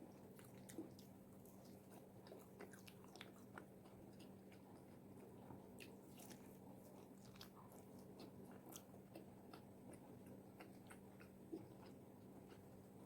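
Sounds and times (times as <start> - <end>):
crunchy chewing: 0.0 - 13.0
steady low hum: 0.0 - 13.0.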